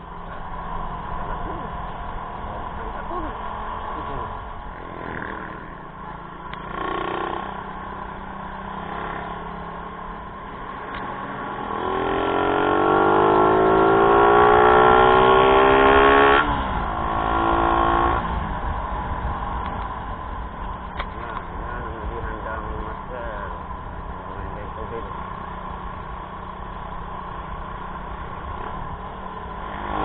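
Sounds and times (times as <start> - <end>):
vehicle engine accelerating: 0.0 - 30.0.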